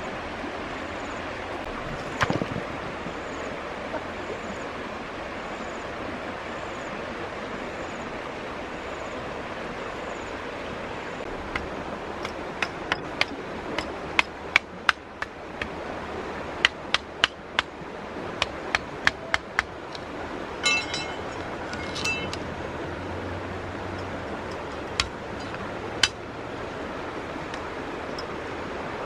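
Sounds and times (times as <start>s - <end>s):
wind-like outdoor noise: 0.0s - 29.0s.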